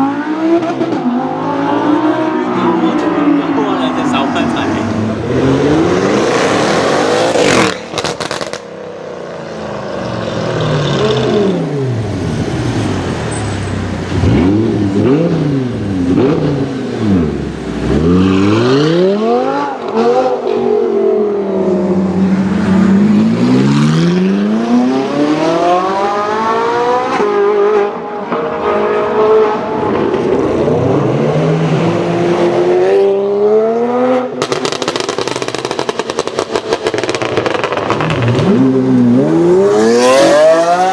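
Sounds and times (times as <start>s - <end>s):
sports car engines revving: 0.0s - 40.9s.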